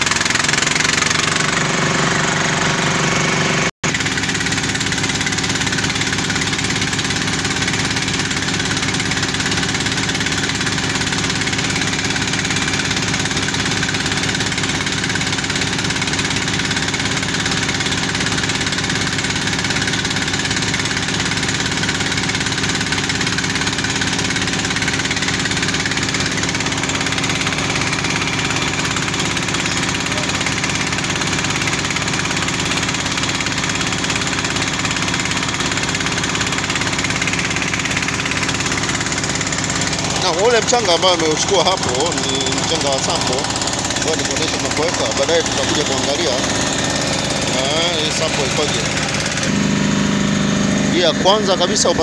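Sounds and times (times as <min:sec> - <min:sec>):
drilling rig engines running: 0:00.0 - 0:52.0.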